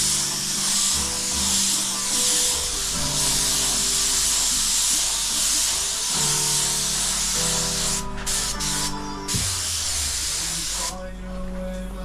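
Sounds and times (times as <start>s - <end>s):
spray gun hissing: 0.0s - 11.1s
background music of held notes: 0.0s - 12.0s.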